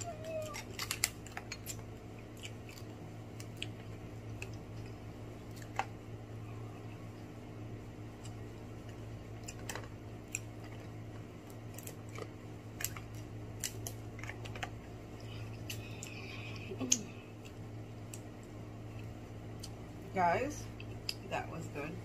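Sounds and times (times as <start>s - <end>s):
clicks and crackles of eating lobster: 0.0s - 6.2s, 8.0s - 20.0s, 20.7s - 21.3s
steady low hum: 0.0s - 22.0s.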